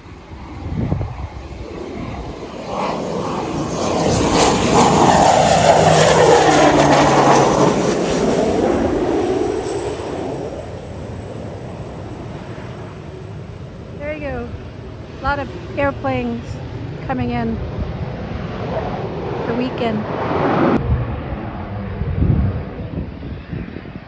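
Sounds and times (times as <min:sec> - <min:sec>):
small airplane flying past: 0:00.0 - 0:24.0.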